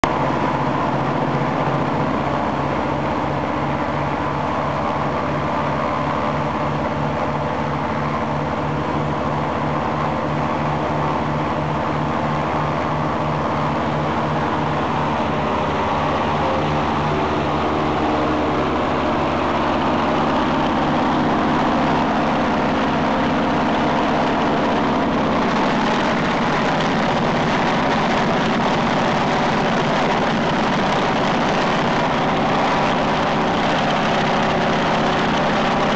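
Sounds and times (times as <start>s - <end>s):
radial piston engine running: 0.1s - 35.9s.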